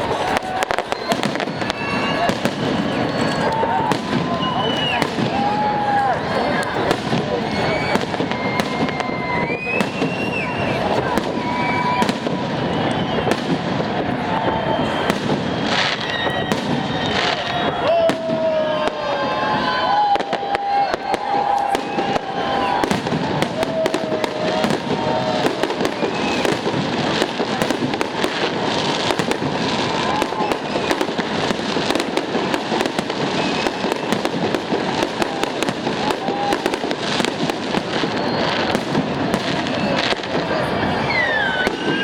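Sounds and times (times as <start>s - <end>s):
fireworks bangs: 0.0s - 42.0s
fireworks crackling: 0.0s - 42.0s.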